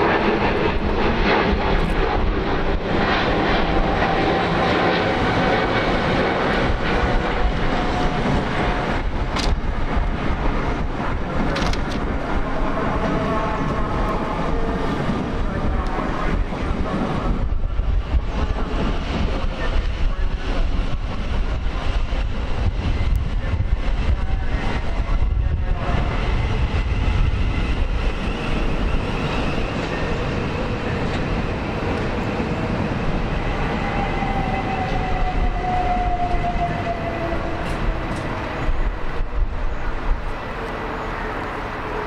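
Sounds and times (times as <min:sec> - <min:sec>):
train whining tone: 0:00.0 - 0:19.0, 0:19.6 - 0:42.0
train wheels rumbling on rails: 0:00.0 - 0:42.0.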